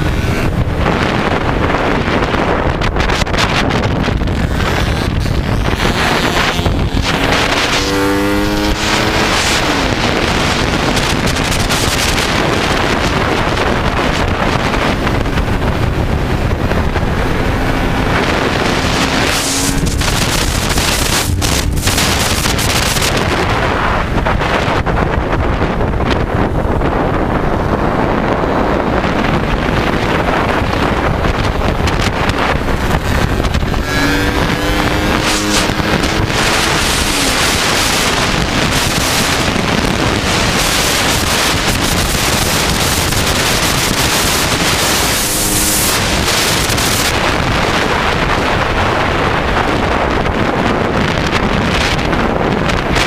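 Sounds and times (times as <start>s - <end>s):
motorcycle engine at speed: 0.0s - 53.0s
wind buffeting microphone: 0.0s - 53.0s.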